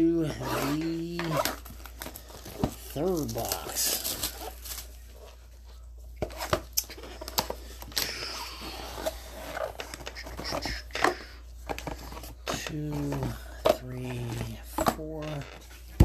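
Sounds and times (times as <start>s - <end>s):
rustle of cardboard and wrappers: 0.0s - 16.0s.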